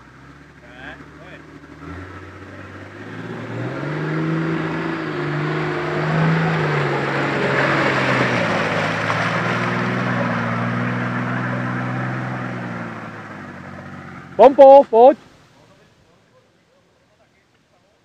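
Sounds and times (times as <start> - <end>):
tyres churning through mud: 0.0 - 15.2
off-road vehicle engine straining: 0.0 - 18.0.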